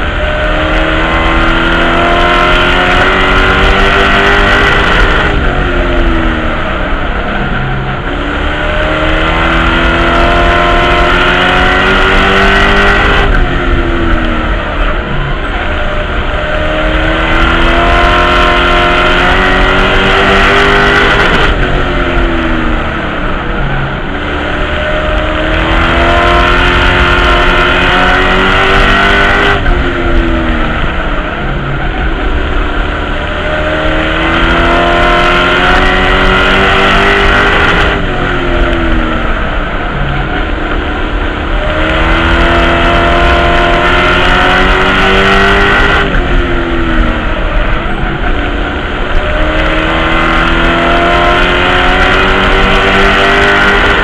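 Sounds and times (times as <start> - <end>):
race truck engine from inside: 0.0 - 54.0.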